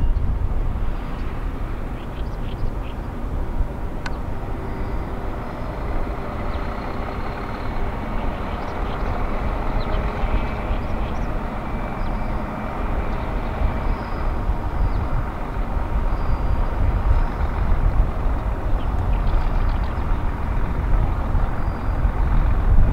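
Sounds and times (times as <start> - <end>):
truck diesel engine rumbling: 0.0 - 22.9.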